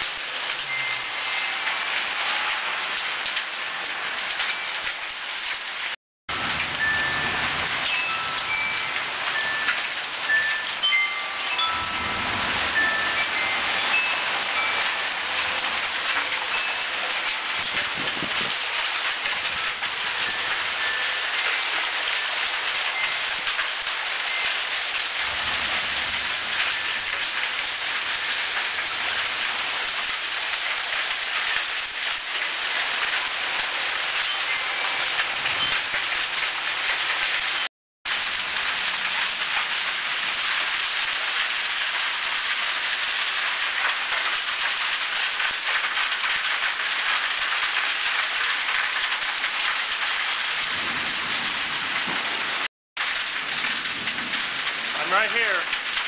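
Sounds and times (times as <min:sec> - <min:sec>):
torrential wind-driven rain: 0:00.0 - 0:56.0.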